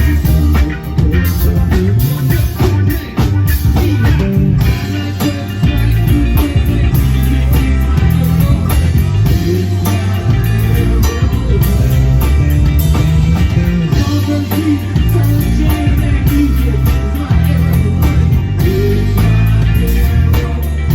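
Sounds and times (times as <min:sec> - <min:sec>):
rock music: 0:00.0 - 0:20.9.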